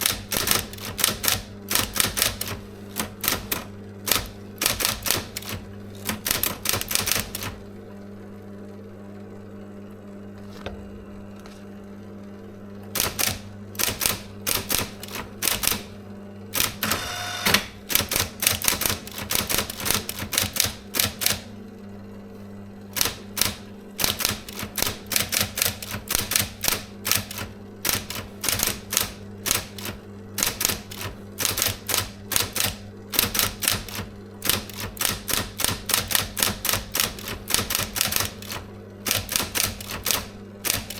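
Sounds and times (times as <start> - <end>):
typewriter key strikes: 0.0 - 7.6, 13.0 - 15.9, 16.6 - 21.5, 23.0 - 40.9
typewriter motor hum: 0.0 - 7.7, 12.9 - 21.6, 22.8 - 40.9.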